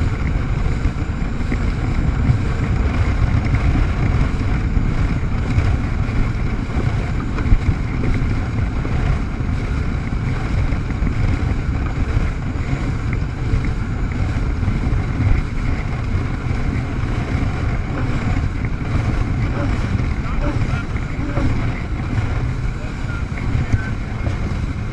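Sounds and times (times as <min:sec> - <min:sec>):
jet ski engine: 0:00.0 - 0:24.9
water rushing: 0:00.0 - 0:24.9
wind buffeting microphone: 0:00.0 - 0:24.9.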